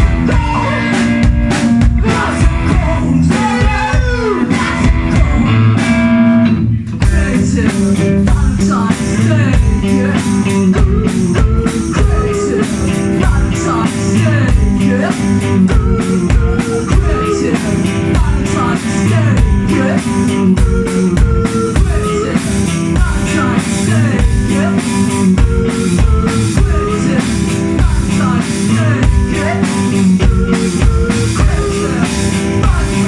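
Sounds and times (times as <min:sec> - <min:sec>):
rock band playing: 0:00.0 - 0:33.0.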